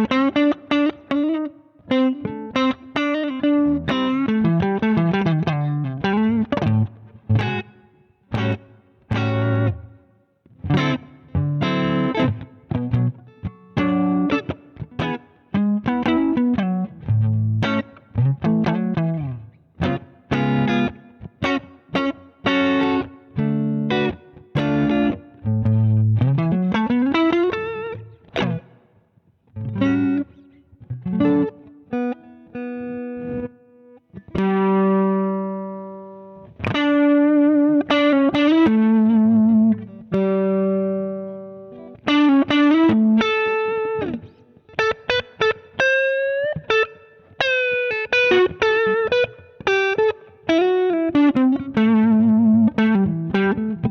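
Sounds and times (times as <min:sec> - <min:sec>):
overdriven electric guitar: 0:00.0 - 0:53.9.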